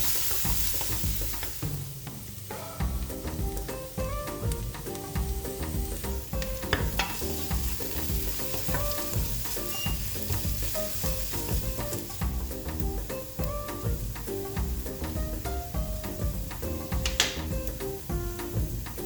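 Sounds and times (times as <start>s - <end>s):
food sizzling in a pan: 0.0s - 19.0s
instrumental background music: 0.0s - 19.0s
utensil clicking against pan: 3.2s - 19.0s.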